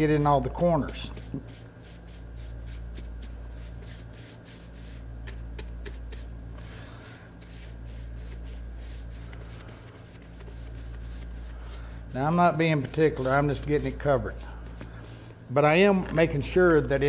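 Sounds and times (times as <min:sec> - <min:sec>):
brush swishing on wood: 0:00.2 - 0:15.4.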